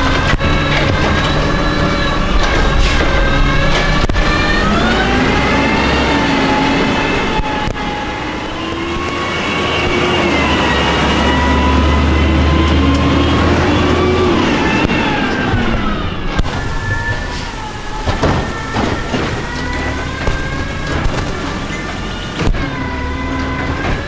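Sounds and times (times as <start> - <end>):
garbage truck driving past: 0.0 - 24.0.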